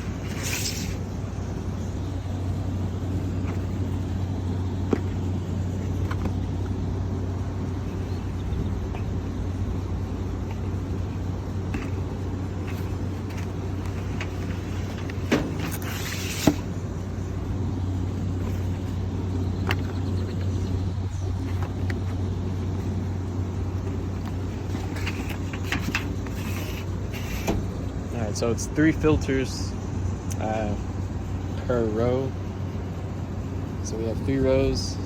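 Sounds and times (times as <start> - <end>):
low machinery hum: 0.0 - 35.0.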